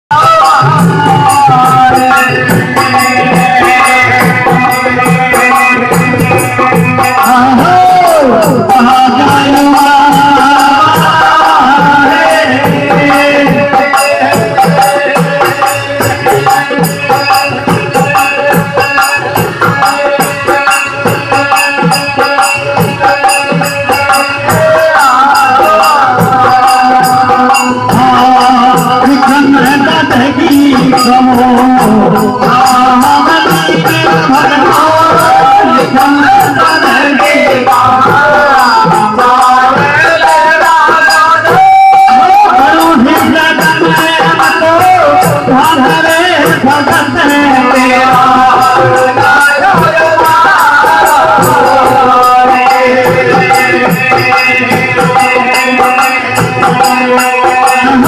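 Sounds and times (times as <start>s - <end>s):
jingling percussion: 0.1s - 58.0s.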